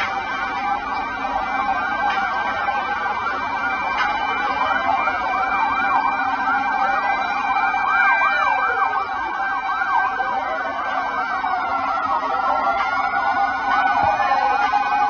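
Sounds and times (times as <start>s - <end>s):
emergency sirens wailing: 0.0s - 15.0s.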